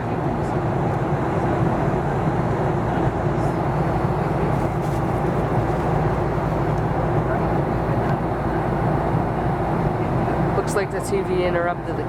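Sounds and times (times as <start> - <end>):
airflow rushing over cabin: 0.0 - 12.0
low hum of jet engines: 0.0 - 12.0.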